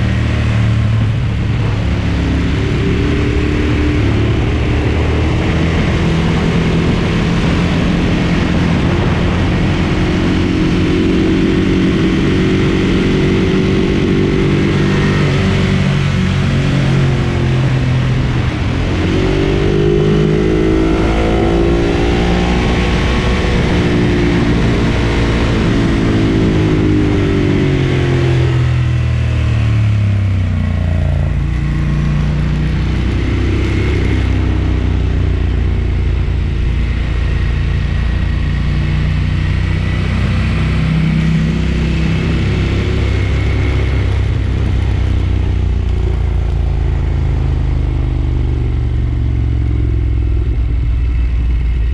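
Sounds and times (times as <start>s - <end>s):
motorcycle engine under way: 0.0s - 51.9s.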